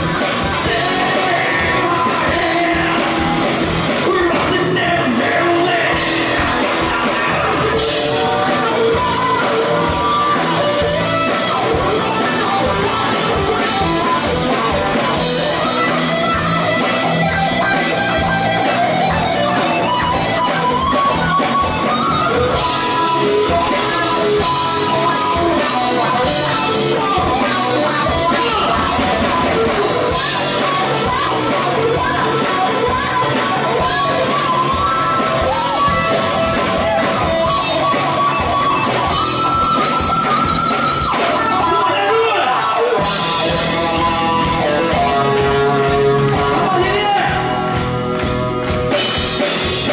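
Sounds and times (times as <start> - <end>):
person singing: 0.0 - 47.8
distorted electric guitars: 0.0 - 49.9
live rock band playing: 0.0 - 49.9.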